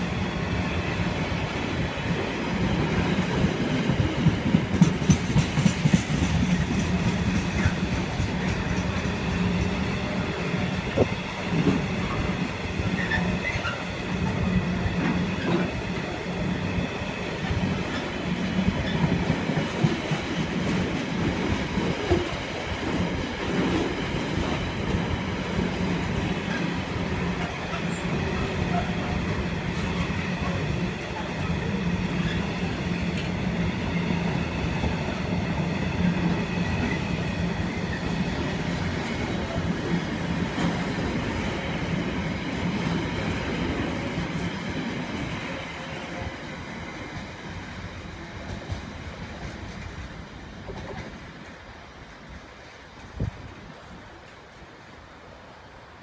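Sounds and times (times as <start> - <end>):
train wheels clickety-clack: 2.5 - 51.7.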